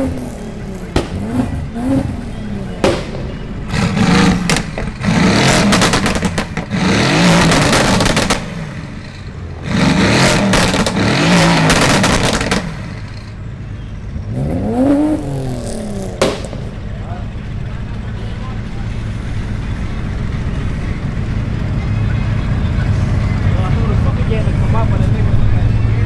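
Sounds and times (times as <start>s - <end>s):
exhaust crackles and pops: 0.0s - 13.4s, 14.3s - 26.0s
car engines revving: 0.0s - 26.0s.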